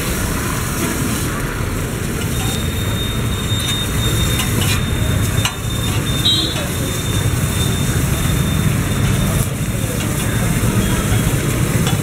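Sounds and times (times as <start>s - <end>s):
noodles sizzling on a pan: 0.0s - 12.0s
road traffic rumble: 0.0s - 12.0s.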